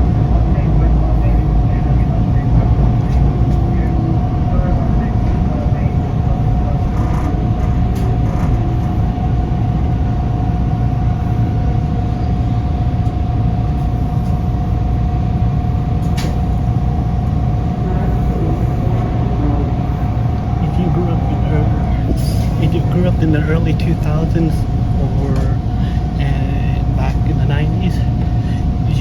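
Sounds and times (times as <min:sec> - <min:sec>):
constant hum: 0:00.0 - 0:29.0
subway train rumble: 0:00.0 - 0:29.0.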